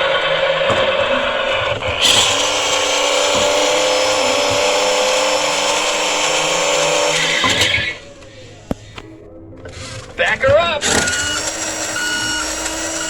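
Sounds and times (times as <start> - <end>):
toy truck buzzy electronic whirring: 0.0 - 9.0, 9.6 - 13.0.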